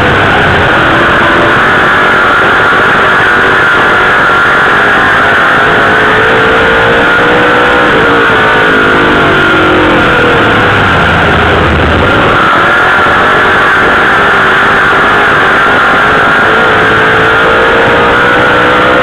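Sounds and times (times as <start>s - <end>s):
race car engine at speed: 0.0s - 19.0s.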